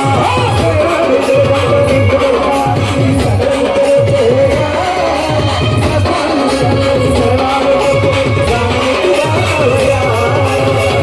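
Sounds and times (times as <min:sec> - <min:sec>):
man singing into a microphone: 0:00.0 - 0:11.0
quick steady drum beat: 0:00.0 - 0:11.0.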